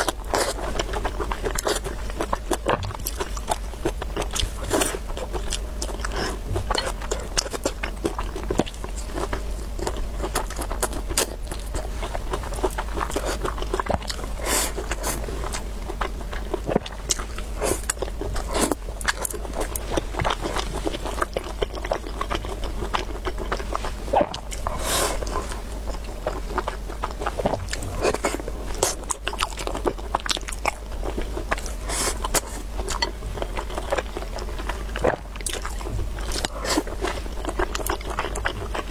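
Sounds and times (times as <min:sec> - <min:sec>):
biting and chewing: 0:00.0 - 0:38.9
steady low hum: 0:00.0 - 0:38.9.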